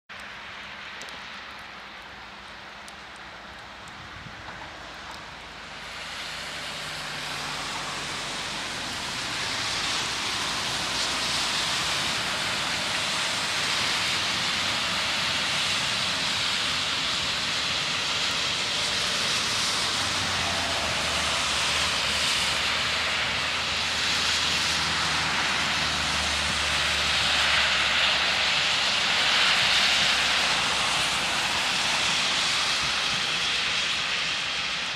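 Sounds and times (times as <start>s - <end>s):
train wheels rushing on rails: 4.3s - 34.9s.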